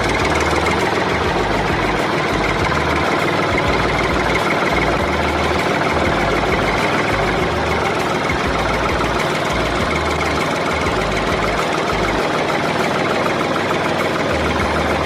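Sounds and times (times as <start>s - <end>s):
engine idling with even knocking: 0.0s - 15.0s.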